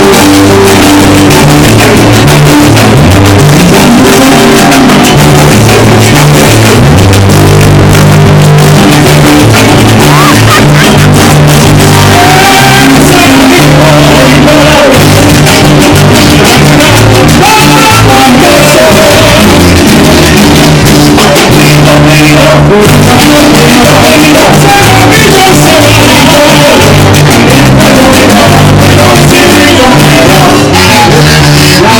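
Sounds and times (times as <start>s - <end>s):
bass line: 0.0s - 31.9s
busy percussion: 0.0s - 31.9s
live latin band music: 0.0s - 31.9s
person singing: 0.0s - 31.9s.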